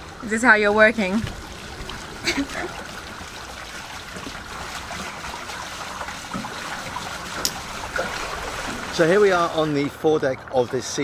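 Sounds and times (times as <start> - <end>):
water lapping against hulls: 0.0 - 11.0.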